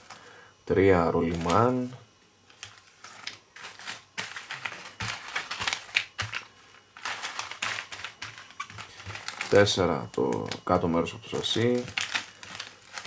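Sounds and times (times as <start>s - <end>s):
plastic bags crinkling: 1.2s - 13.0s.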